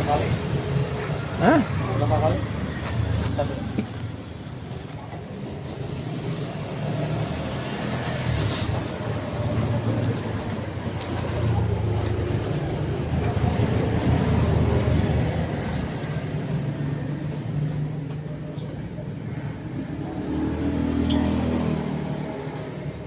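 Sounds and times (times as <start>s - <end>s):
traffic engine rumble: 0.0s - 23.0s.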